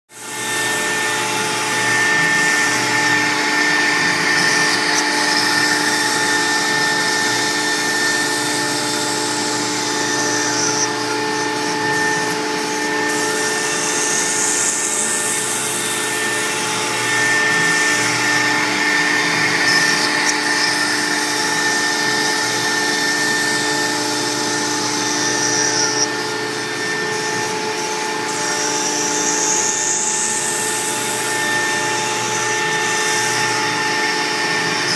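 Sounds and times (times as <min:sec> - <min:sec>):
router bit cutting hiss: 0:00.1 - 0:34.9
router spindle whine: 0:00.1 - 0:34.9.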